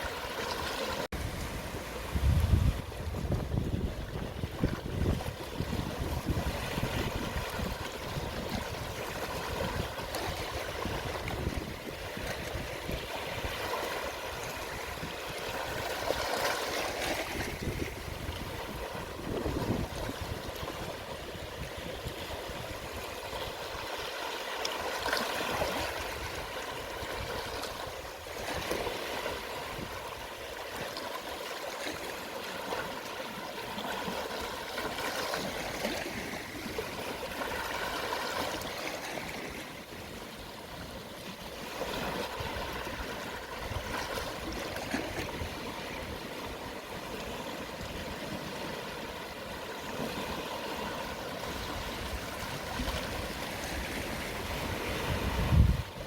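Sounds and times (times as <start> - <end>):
gentle sea waves on shore: 0.0 - 56.0.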